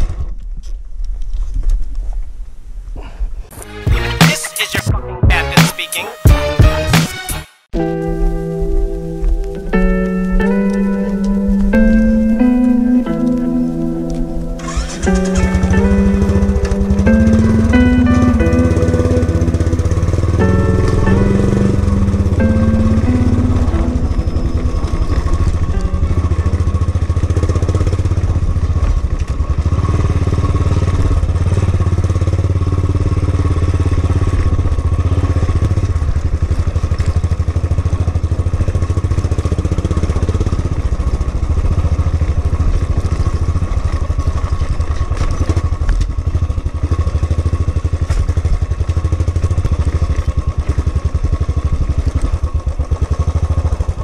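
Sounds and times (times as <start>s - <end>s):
motorcycle engine running: 7.8s - 54.0s.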